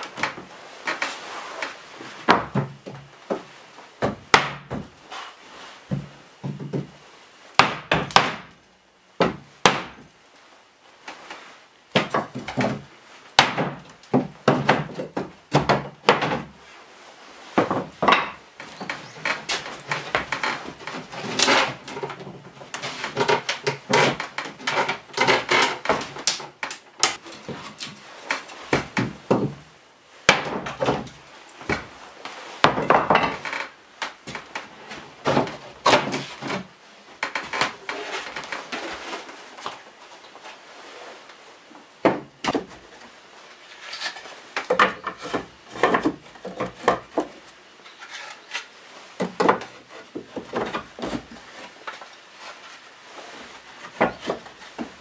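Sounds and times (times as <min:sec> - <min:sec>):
wooden knocks and clunks: 0:00.0 - 0:05.0, 0:05.9 - 0:07.0, 0:07.6 - 0:08.6, 0:09.2 - 0:10.1, 0:11.9 - 0:16.6, 0:17.5 - 0:29.7, 0:30.3 - 0:32.0, 0:32.6 - 0:39.8, 0:42.0 - 0:43.0, 0:44.6 - 0:55.0
wood scraping: 0:00.0 - 0:07.0, 0:11.0 - 0:29.7, 0:30.3 - 0:55.0.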